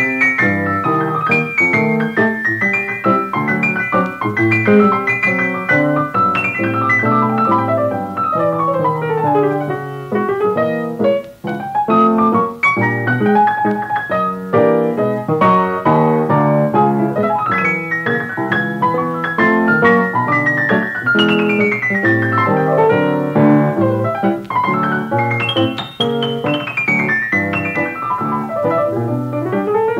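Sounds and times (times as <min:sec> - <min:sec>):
piano music: 0:00.0 - 0:29.9.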